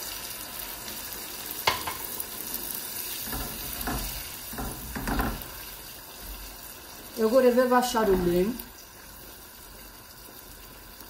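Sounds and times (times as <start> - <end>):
meat and onions sizzling in a pot: 0.0 - 11.0.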